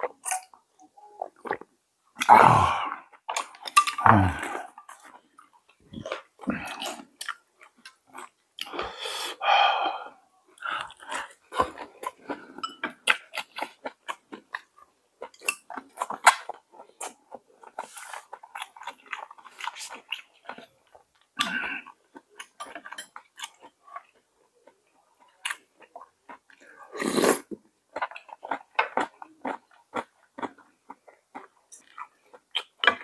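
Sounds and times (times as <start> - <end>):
person chewing and smacking: 1.2 - 8.8, 10.6 - 33.0.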